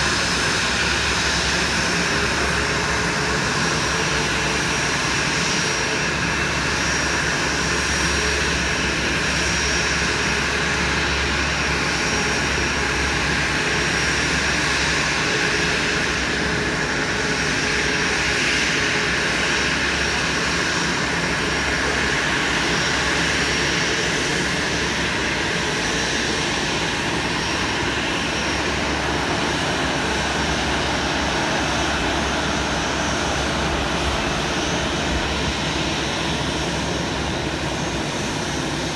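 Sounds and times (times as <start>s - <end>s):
jet airliner engines running: 0.0s - 38.9s.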